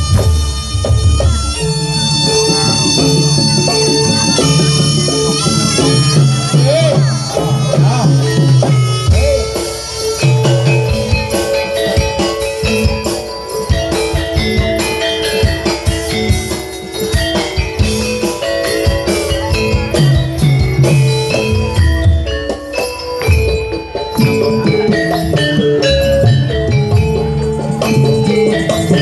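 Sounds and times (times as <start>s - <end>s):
drums: 0.0s - 29.0s
gamelan music: 0.0s - 29.0s.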